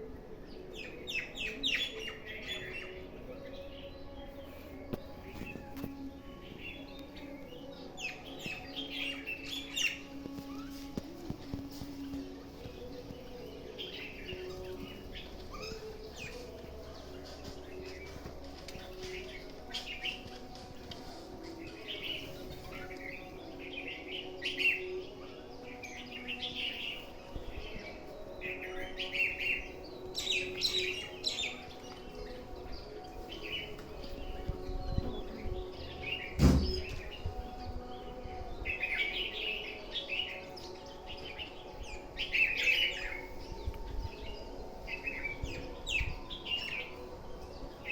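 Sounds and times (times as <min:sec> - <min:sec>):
sparrows chirping: 0:00.0 - 0:47.9.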